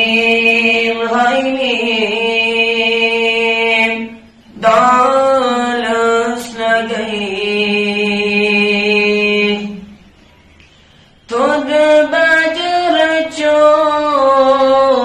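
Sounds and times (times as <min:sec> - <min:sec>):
person singing unaccompanied: 0:00.0 - 0:10.0, 0:11.3 - 0:15.0.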